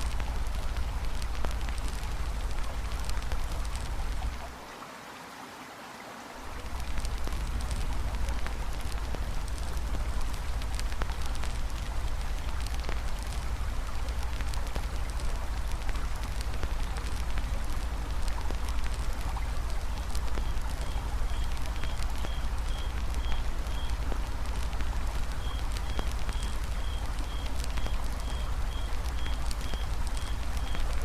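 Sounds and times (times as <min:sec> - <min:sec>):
campfire crackling and popping: 0:00.0 - 0:04.6, 0:06.5 - 0:31.0
flowing water: 0:00.0 - 0:31.0.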